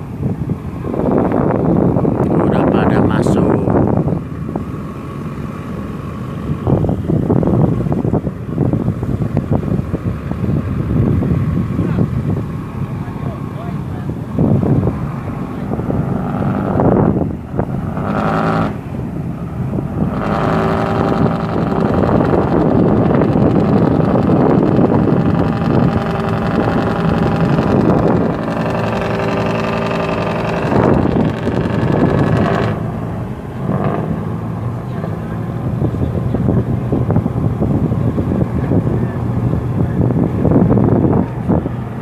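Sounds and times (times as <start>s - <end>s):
boat engine running: 0.0s - 42.0s
water: 0.0s - 42.0s
wind: 0.0s - 42.0s.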